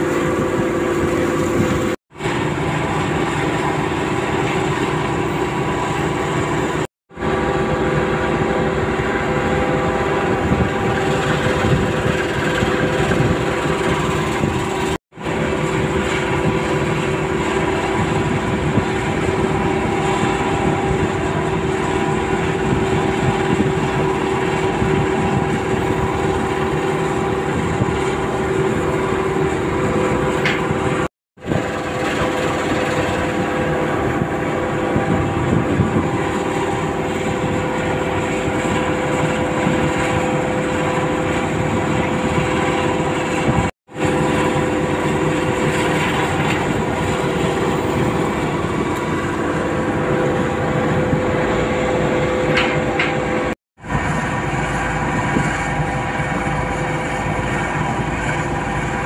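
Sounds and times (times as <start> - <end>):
excavator diesel engines droning: 0.0 - 59.0
steady high hum: 0.0 - 59.0.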